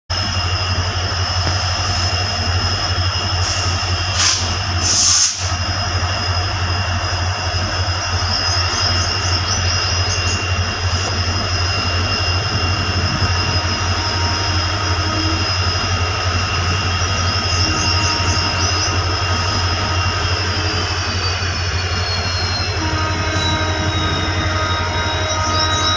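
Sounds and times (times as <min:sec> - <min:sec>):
high steady whine: 0:00.1 - 0:25.9
train rumbling past: 0:00.1 - 0:25.9.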